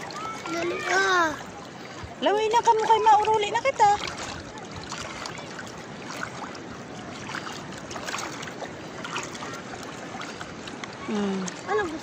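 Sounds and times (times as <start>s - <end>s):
seawater splashing: 0.0s - 12.0s.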